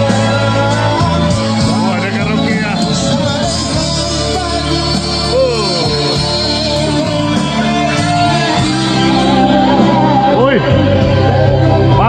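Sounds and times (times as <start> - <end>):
karaoke backing track: 0.0 - 12.0
man singing into a microphone: 0.0 - 12.0.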